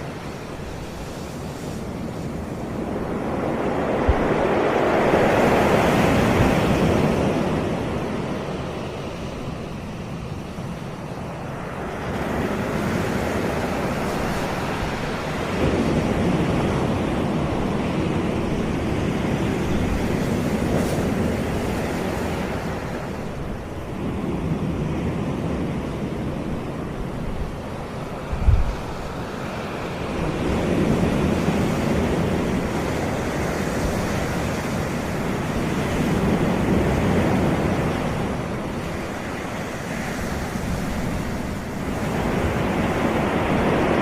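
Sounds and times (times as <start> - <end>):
waves washing onto beach: 0.0 - 44.0.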